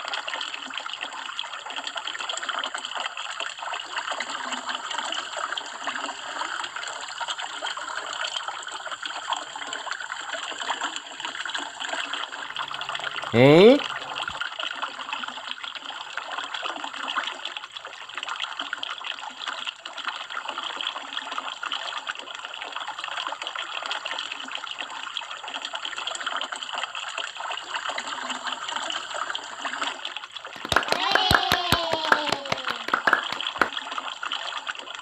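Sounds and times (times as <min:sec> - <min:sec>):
stream trickling over stones: 0:00.0 - 0:13.3, 0:13.9 - 0:30.6.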